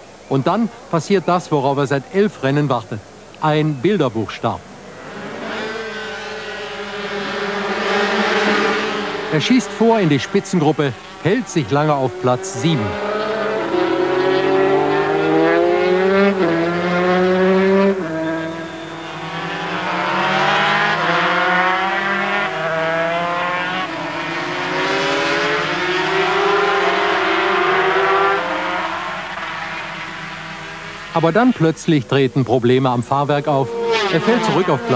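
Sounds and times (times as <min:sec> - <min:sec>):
racing motorcycles passing: 0:04.8 - 0:34.9.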